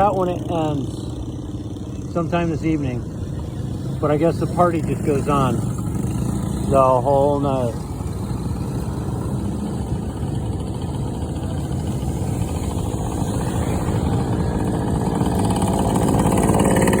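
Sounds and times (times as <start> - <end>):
motorcycle engines running: 0.0 - 17.0.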